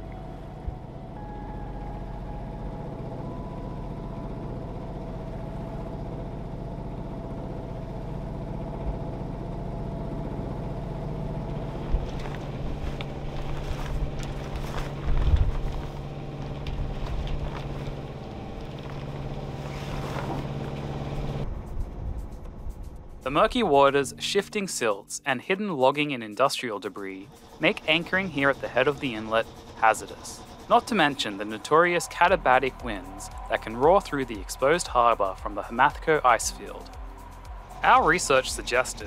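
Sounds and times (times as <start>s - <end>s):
boat engine humming: 0.0s - 39.0s.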